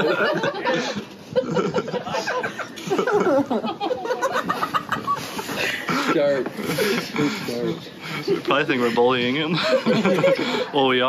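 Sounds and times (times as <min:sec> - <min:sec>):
men chuckling and laughing: 0:00.0 - 0:10.8.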